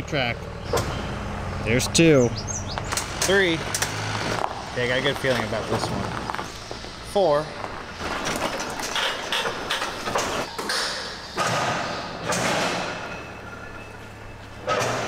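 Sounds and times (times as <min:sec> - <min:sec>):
farm header rattling and clunking: 0:00.5 - 0:15.0.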